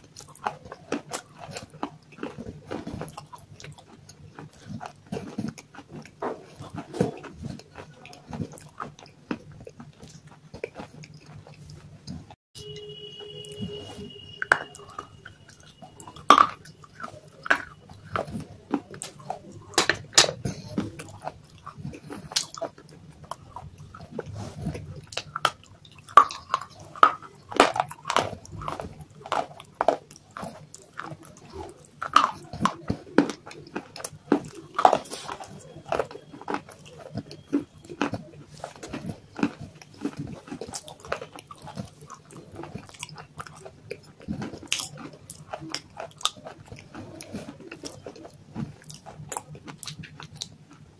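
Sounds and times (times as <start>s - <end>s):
person crunching and chewing: 0.0s - 50.9s.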